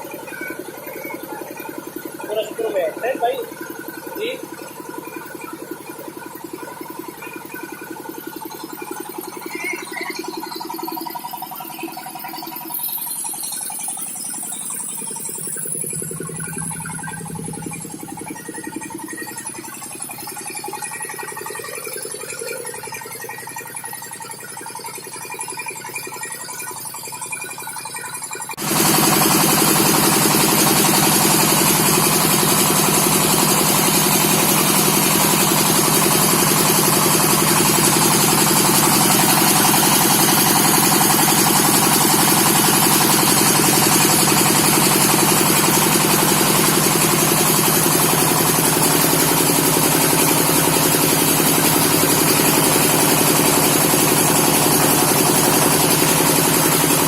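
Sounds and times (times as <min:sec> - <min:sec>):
drilling rig motor rattling: 0:00.0 - 0:24.5, 0:28.5 - 0:57.0.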